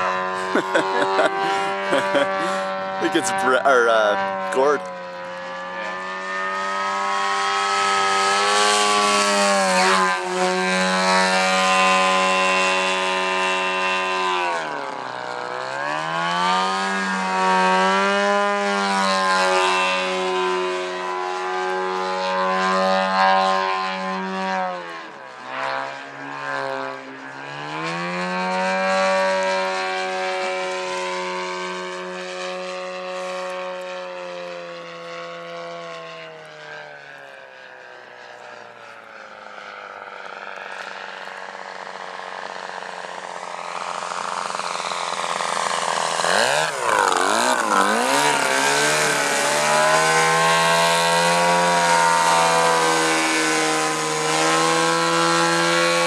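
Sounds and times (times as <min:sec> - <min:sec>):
model plane engine revving: 0:00.0 - 0:56.0.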